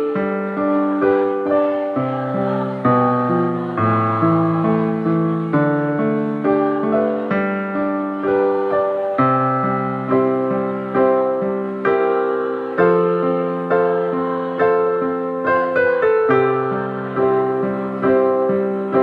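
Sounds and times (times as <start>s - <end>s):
keyboard playing slow chords: 0.0s - 19.0s.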